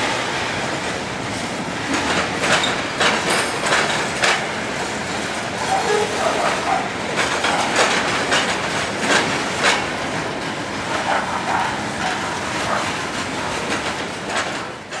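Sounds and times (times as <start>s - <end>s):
freight train rumbling: 0.0s - 15.0s
steel wheels clicking over rail joints: 1.8s - 15.0s.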